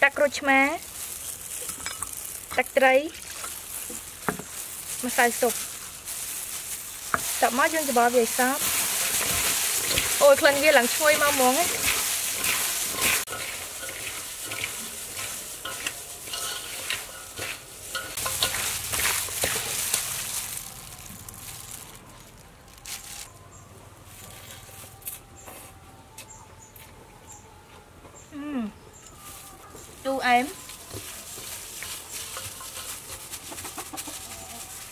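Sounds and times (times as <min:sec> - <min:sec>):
gloved hands rustling vegetables: 0:00.0 - 0:23.4, 0:29.0 - 0:34.9.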